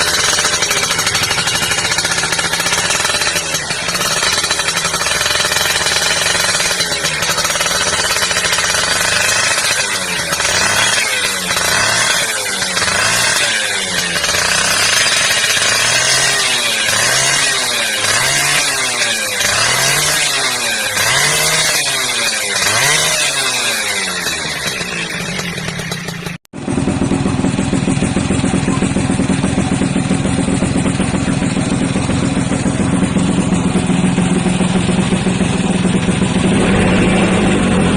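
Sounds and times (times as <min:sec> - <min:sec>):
moped engine revving: 0:00.0 - 0:37.9.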